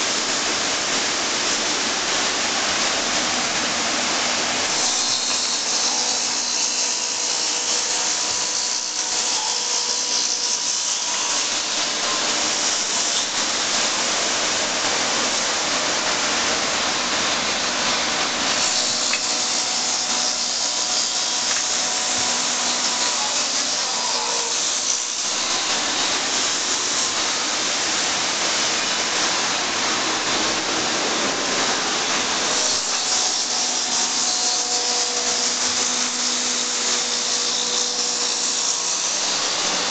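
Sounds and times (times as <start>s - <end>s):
lathe cutting wood hiss: 1.3s - 39.9s.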